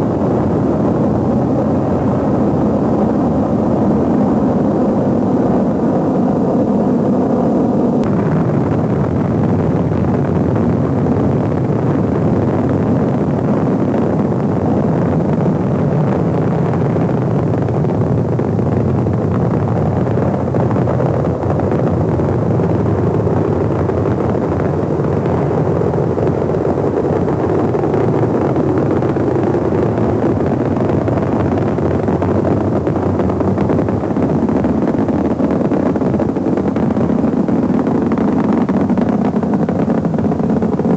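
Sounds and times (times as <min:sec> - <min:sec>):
rocket engine roar: 0:00.0 - 0:40.9.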